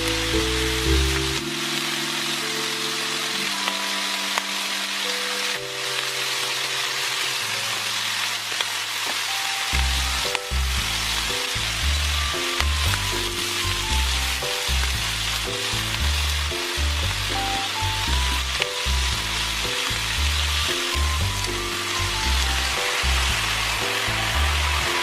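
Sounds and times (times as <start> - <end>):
bacon and mushrooms sizzling in pan: 0.0 - 25.0.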